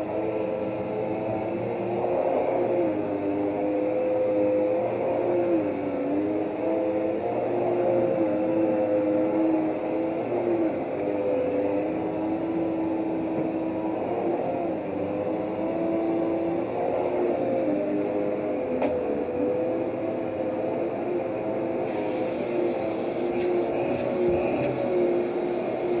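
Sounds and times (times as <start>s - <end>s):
vacuum cleaner motor whining: 0.0s - 26.0s.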